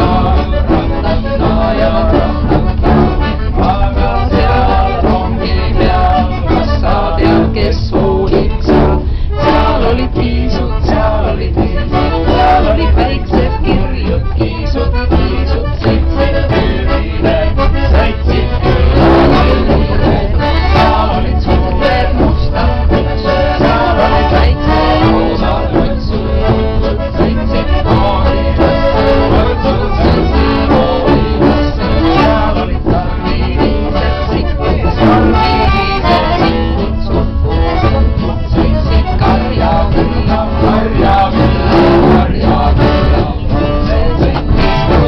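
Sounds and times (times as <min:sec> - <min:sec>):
accordion-led band music: 0:00.0 - 0:45.0.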